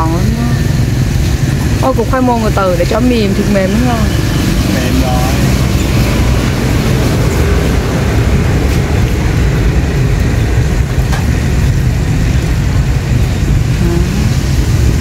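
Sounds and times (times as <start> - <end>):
loud low rumbling: 0.0 - 15.0.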